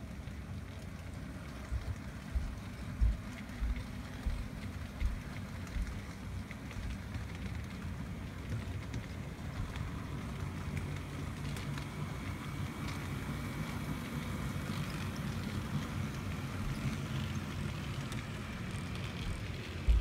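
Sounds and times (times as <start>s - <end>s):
model train rolling along track: 0.0s - 20.0s.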